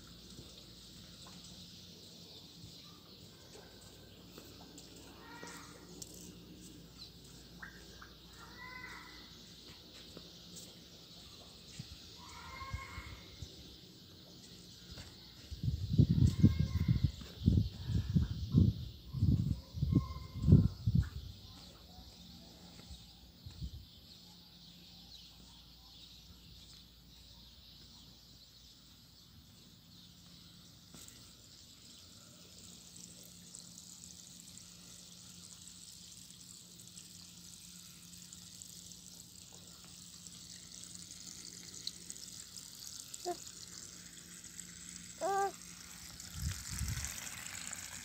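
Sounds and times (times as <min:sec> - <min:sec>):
steady high hiss: 0:00.0 - 0:16.8, 0:26.1 - 0:48.0.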